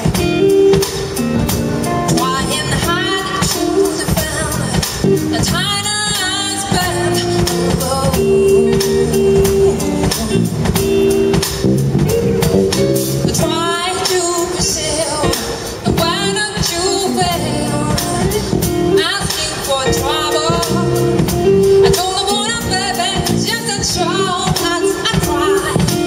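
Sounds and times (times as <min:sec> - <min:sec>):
live band playing: 0:00.0 - 0:26.0
woman singing: 0:02.0 - 0:11.1, 0:13.2 - 0:26.0.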